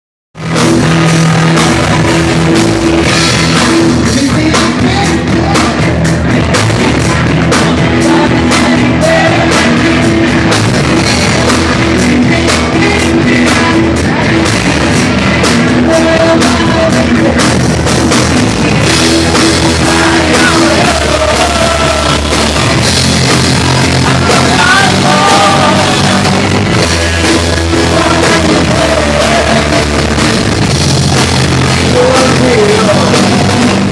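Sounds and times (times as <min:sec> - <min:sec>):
rock band playing live: 0:00.4 - 0:33.9.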